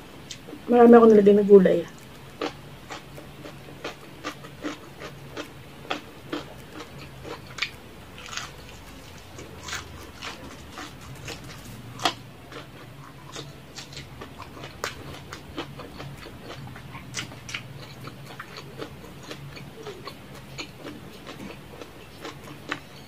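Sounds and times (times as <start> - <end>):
crunching fried chicken: 1.9 - 23.0
wet chewing: 1.9 - 23.0.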